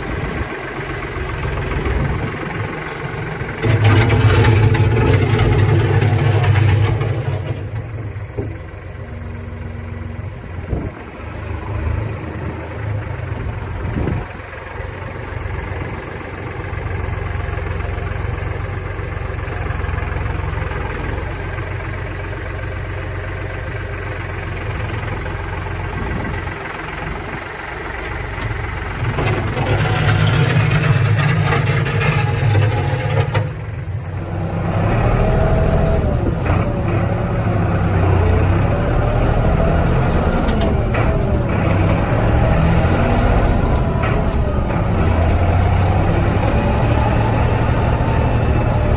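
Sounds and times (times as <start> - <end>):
tractor diesel engine droning: 0.0 - 48.9.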